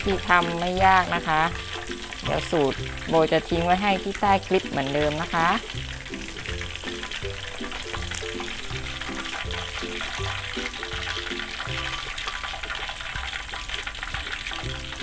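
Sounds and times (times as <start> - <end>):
background music: 0.0 - 15.0
wings sizzling in hot oil: 0.0 - 15.0.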